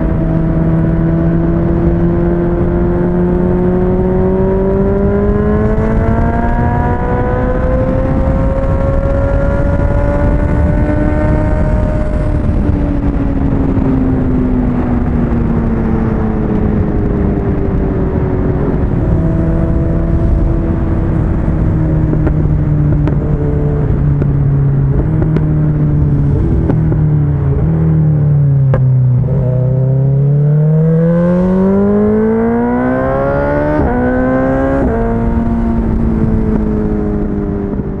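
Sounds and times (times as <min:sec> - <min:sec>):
motorcycle engine: 0:00.0 - 0:38.0
wind noise: 0:00.0 - 0:38.0.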